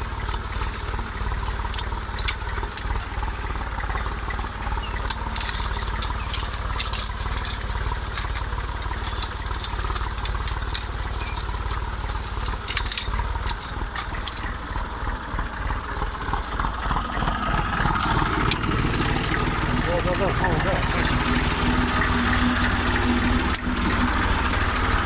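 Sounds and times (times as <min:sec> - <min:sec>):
diesel tractor engine running: 0:00.0 - 0:25.0
rattling clicks: 0:01.2 - 0:25.0.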